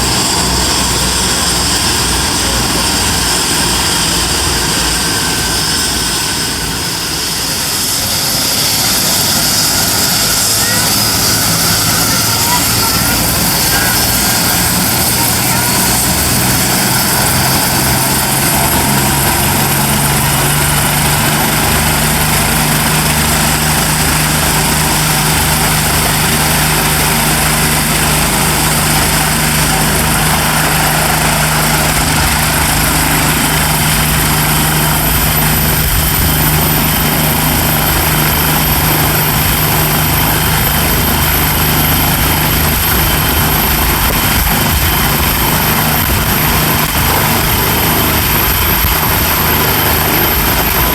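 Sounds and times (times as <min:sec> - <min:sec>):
helicopter rotor beating: 0:00.0 - 0:50.9
turbine whining: 0:00.0 - 0:50.9.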